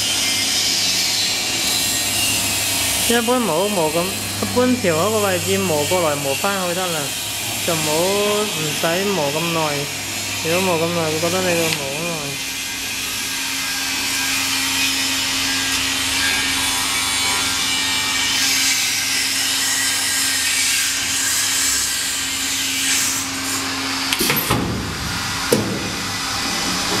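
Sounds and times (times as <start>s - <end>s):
grinding machine humming: 0.0s - 24.1s.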